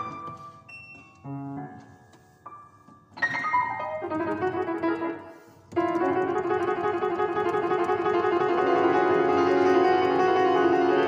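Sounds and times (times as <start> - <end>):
solo grand piano: 0.0 - 11.0.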